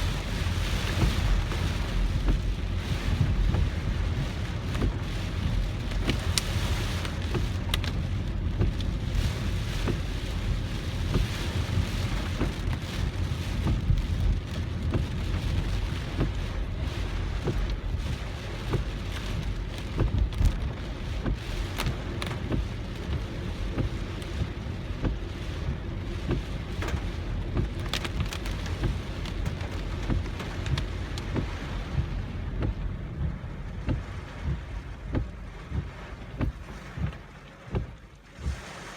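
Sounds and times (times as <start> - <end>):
car driving on wet road: 0.0 - 38.9
heavy rain on a car: 0.0 - 38.9.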